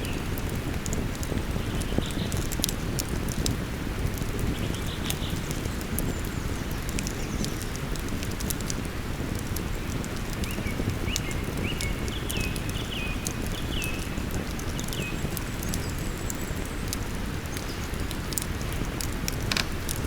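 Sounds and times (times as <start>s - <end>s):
burning wood popping: 0.0s - 20.0s
campfire crackling: 0.0s - 20.0s.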